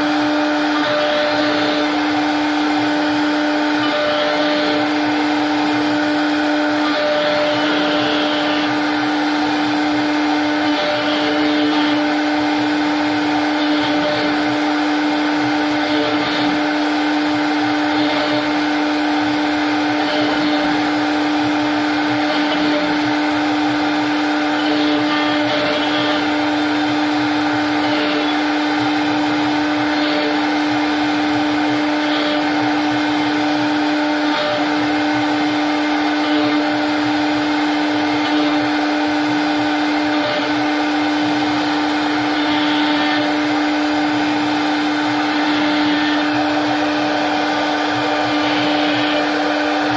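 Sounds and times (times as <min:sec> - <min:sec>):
router spindle whining: 0:00.0 - 0:49.9.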